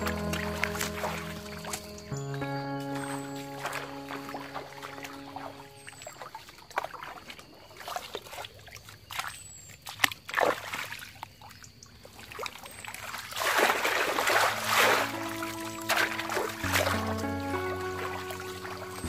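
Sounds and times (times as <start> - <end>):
shallow water splashing: 0.0 - 19.0.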